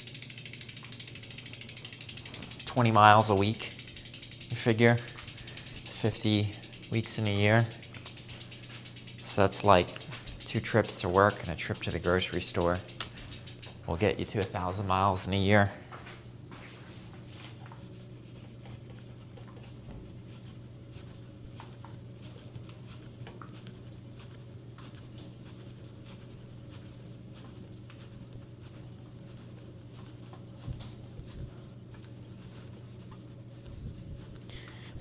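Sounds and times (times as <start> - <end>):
cloth wiping a bicycle: 0.0 - 35.0.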